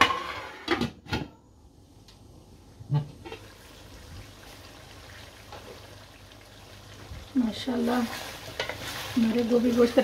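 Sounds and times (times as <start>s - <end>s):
faint hiss of food cooking: 1.5s - 10.0s.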